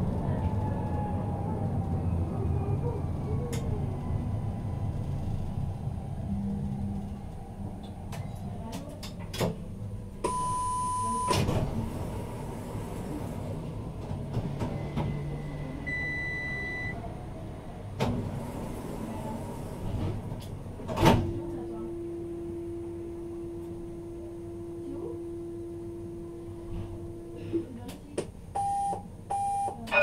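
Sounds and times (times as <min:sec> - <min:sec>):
tram equipment humming: 0:00.0 - 0:30.0.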